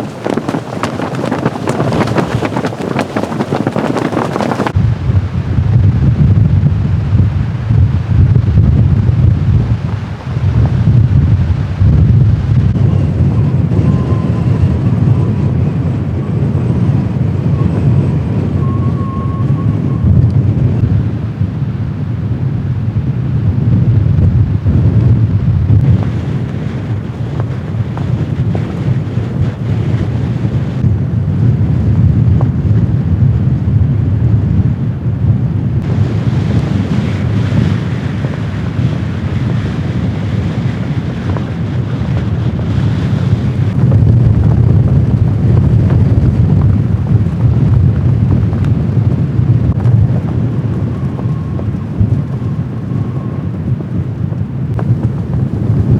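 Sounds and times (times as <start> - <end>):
blizzard wind buffeting microphone: 0.0 - 55.9.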